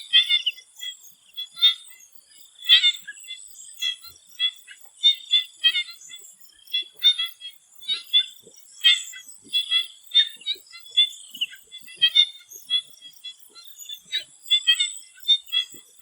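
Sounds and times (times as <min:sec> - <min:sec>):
frogs calling in chorus: 0:00.0 - 0:16.0.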